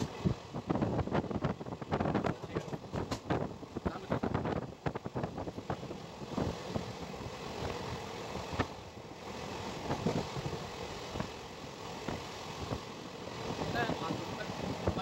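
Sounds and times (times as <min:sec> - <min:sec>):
rail noise: 0:00.0 - 0:15.0
rush of wind: 0:00.0 - 0:15.0.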